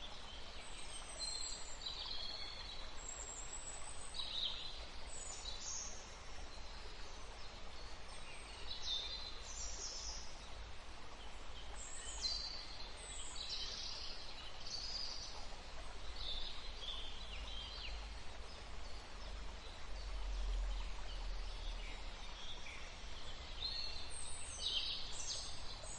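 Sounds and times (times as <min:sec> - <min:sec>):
river flowing: 0:00.0 - 0:25.9.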